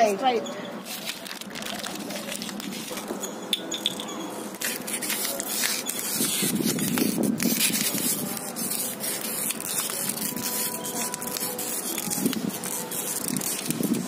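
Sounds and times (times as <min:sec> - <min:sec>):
plastic bottles crinkling: 0:00.9 - 0:14.0.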